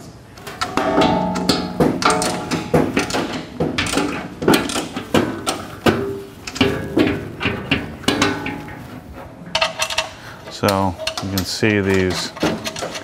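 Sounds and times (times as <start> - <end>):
metal parts clanking: 0.4 - 13.0.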